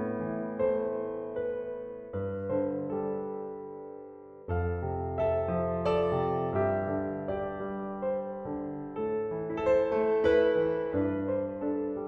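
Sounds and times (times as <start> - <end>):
soft piano notes: 0.0 - 12.0.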